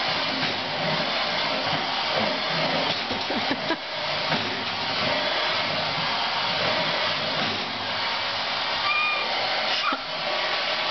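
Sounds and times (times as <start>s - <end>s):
vacuum cleaner running: 0.0s - 10.9s.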